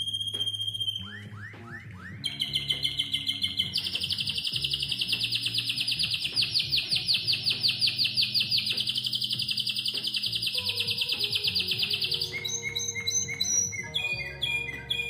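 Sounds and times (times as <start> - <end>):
canary singing a fast trill: 0.0 - 15.0
soft background music: 0.0 - 15.0.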